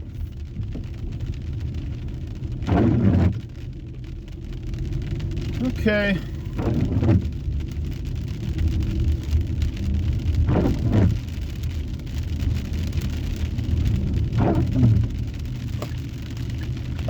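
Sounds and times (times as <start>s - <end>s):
car low rumble: 0.0s - 17.0s
heavy rain on car roof: 0.0s - 17.0s
windshield wiper swishing: 0.0s - 17.0s.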